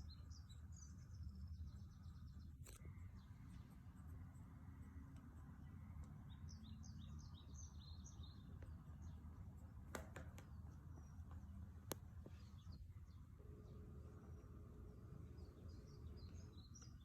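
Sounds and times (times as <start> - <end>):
bird chirping: 0.0 - 17.0
low steady hum: 0.0 - 17.0.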